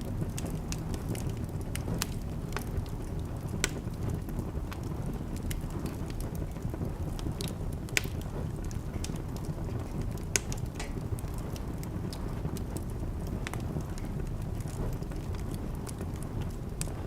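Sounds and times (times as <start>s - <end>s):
fire crackles and pops: 0.0s - 17.0s
fire low rumble: 0.0s - 17.0s.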